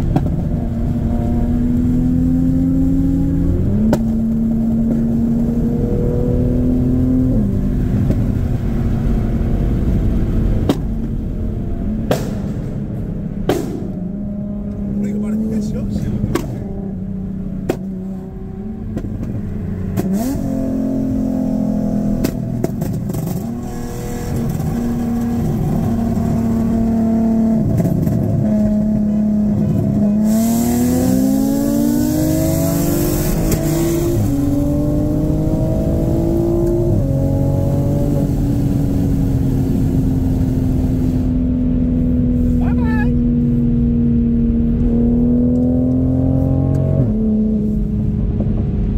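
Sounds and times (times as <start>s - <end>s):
car engine revving high: 0.0s - 11.2s, 13.4s - 48.9s.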